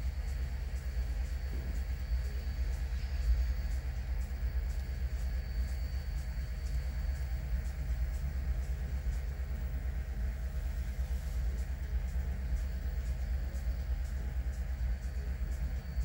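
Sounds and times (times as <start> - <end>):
deep diesel locomotive rumble: 0.0 - 16.0.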